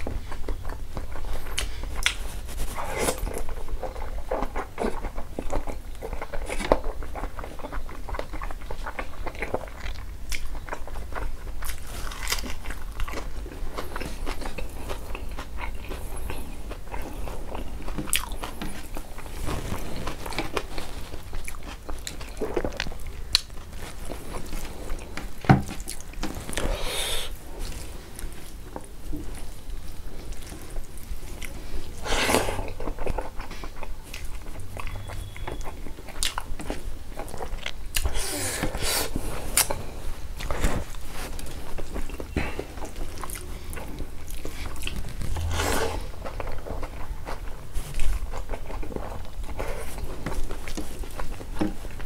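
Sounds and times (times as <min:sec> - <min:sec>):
man chewing food: 0:00.0 - 0:52.0.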